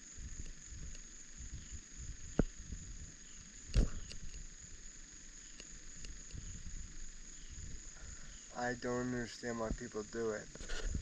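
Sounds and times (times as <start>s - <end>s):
crickets trilling: 0.0s - 11.0s
low uneven rumble: 0.0s - 11.0s.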